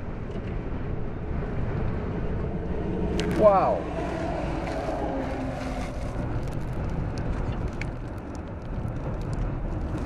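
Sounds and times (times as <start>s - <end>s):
storm wind rushing: 0.0s - 10.0s.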